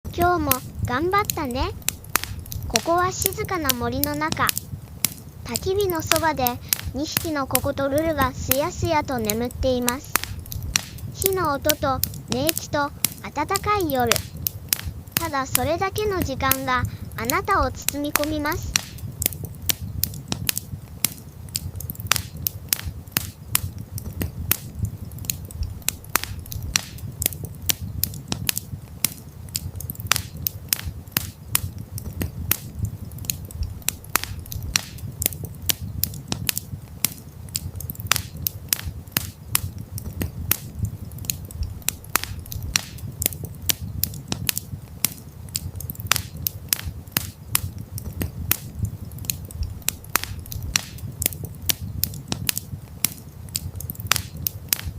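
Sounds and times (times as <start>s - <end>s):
campfire crackling: 0.0s - 54.9s.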